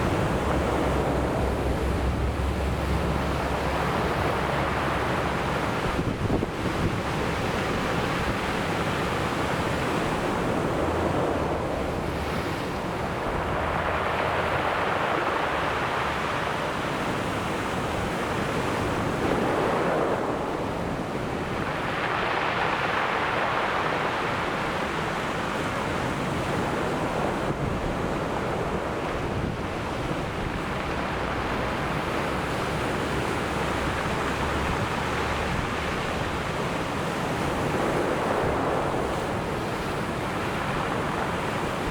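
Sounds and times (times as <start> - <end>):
sea waves breaking on shore: 0.0 - 41.9.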